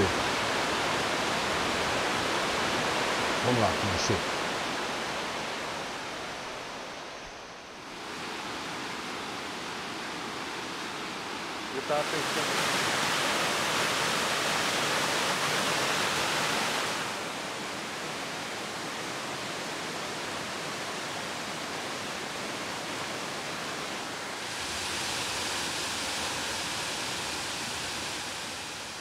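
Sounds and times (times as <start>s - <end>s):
waterfall rushing: 0.0s - 7.2s, 7.8s - 29.0s.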